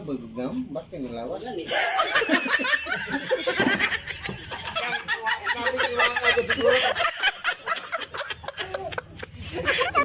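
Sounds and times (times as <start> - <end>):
men talking: 0.0 - 10.0
men laughing: 1.7 - 10.0.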